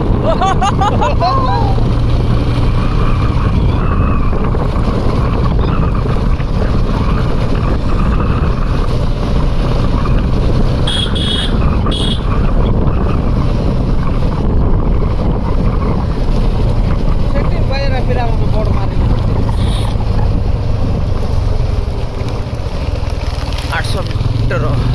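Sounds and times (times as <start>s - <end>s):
vehicle engine and road rumble: 0.0s - 24.9s
wind buffeting microphone: 0.0s - 24.9s.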